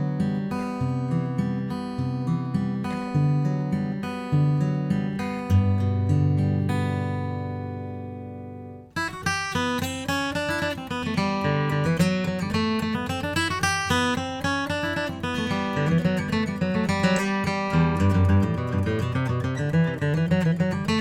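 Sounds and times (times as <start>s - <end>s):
acoustic guitar chord ringing: 0.0s - 21.0s
acoustic guitar picked notes: 0.0s - 21.0s.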